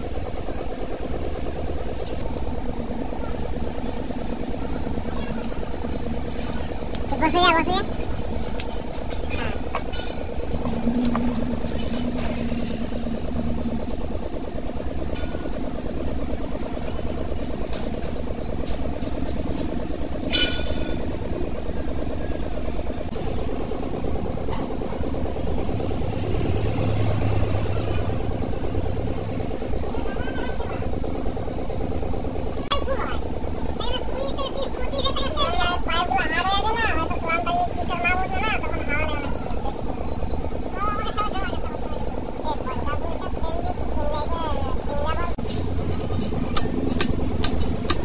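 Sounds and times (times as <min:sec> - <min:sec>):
steady hum: 0:00.0 - 0:48.0
vehicle engine idling: 0:00.0 - 0:48.0.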